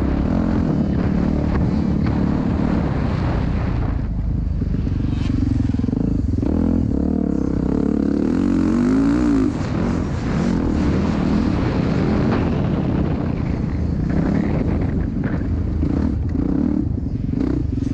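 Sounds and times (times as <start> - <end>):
dirt bike engine revving: 0.0 - 17.9.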